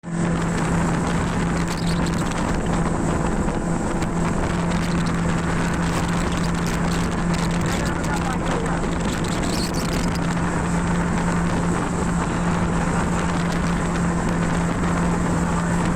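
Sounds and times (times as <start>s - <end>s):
motorboat engine running: 0.0s - 15.9s
water rushing past hull: 0.0s - 15.9s
wind buffeting microphone: 0.0s - 15.9s.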